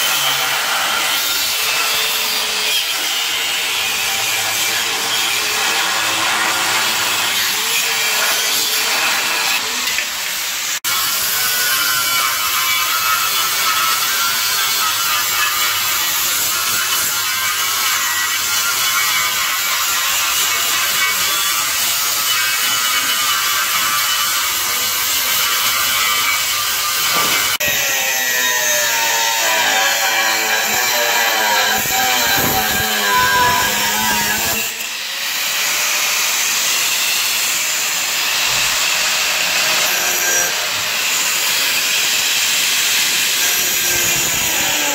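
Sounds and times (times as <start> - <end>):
angle grinder cutting metal: 0.0 - 44.9.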